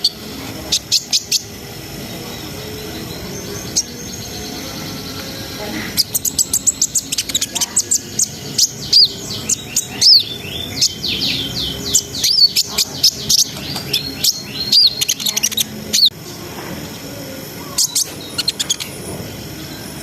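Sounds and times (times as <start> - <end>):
sunbird chirping and trilling: 0.0 - 20.0.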